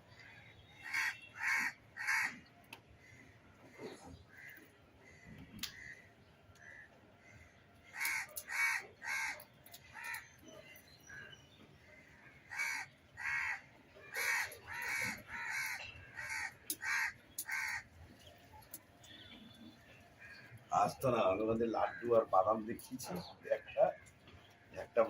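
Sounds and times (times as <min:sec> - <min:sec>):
crows cawing: 0:00.2 - 0:17.9, 0:19.9 - 0:23.0.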